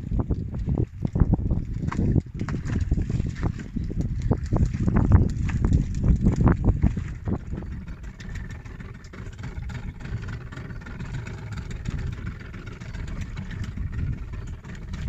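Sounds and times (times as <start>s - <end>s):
boat through choppy water: 0.0s - 15.0s
outboard motor running: 0.0s - 15.0s.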